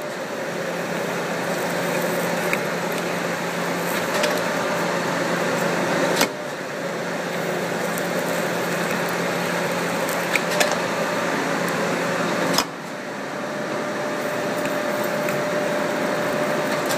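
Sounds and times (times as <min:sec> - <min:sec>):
metal planer machine running: 0:00.0 - 0:16.9.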